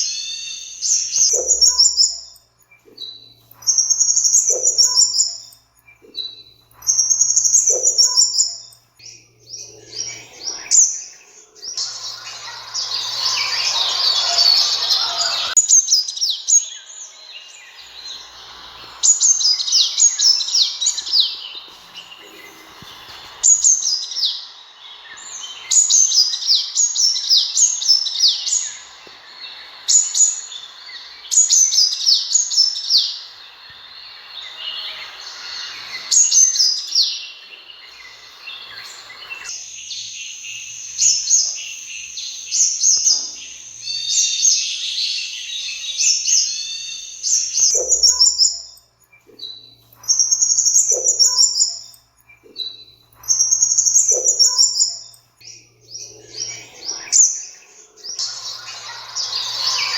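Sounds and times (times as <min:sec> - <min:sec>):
bird chirps and trills: 0:00.0 - 0:59.9.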